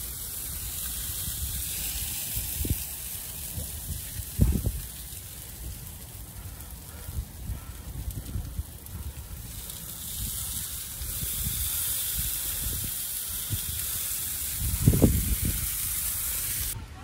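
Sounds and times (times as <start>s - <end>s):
ribs sizzling on a grill: 0.0s - 16.8s
wind rumble on microphone: 0.0s - 17.0s.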